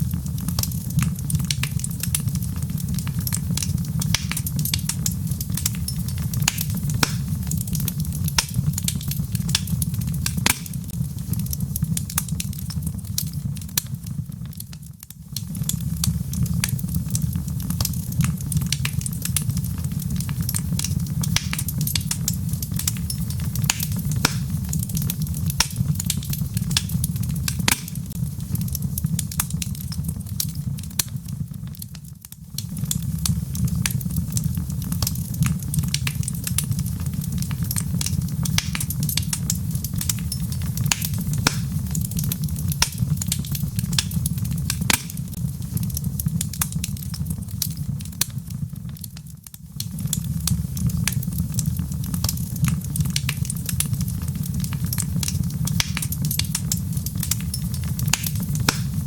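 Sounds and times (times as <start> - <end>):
wood fire crackling and rumbling: 0.0 - 59.0.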